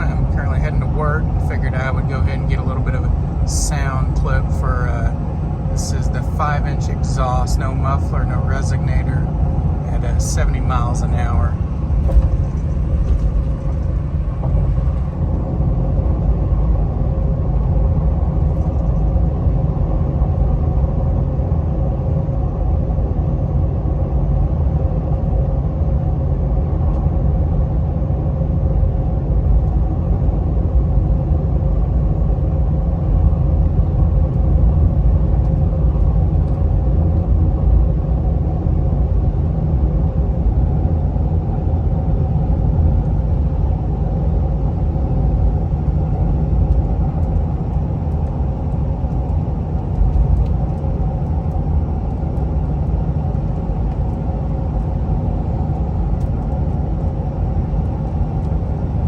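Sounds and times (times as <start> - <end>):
truck engine low rumble: 0.0 - 59.0.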